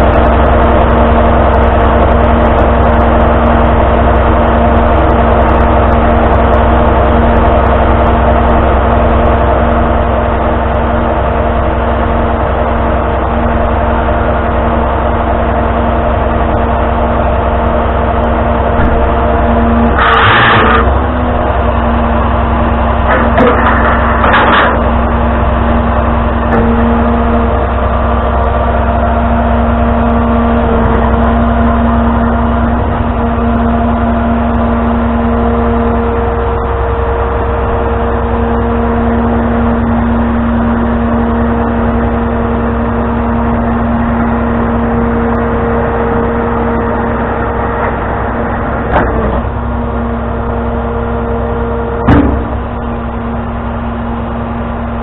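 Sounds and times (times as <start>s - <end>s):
truck engine rumbling: 0.0s - 55.0s.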